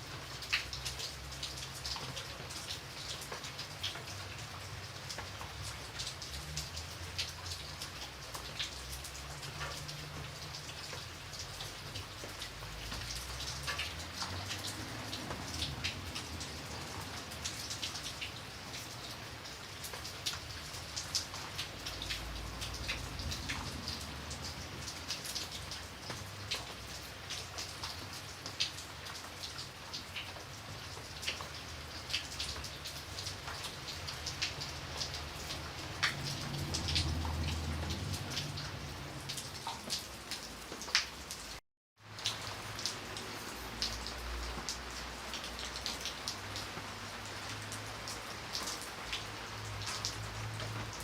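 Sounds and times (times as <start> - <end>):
rain drops pattering: 0.0 - 51.0.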